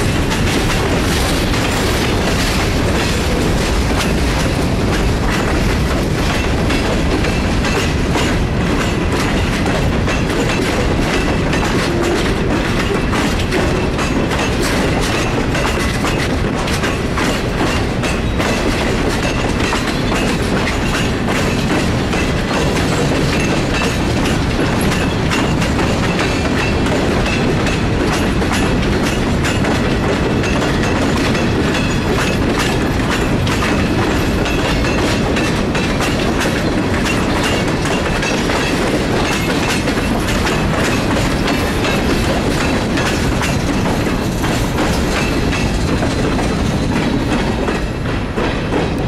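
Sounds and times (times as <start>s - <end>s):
wheels clicking over rail joints: 0.0s - 49.0s.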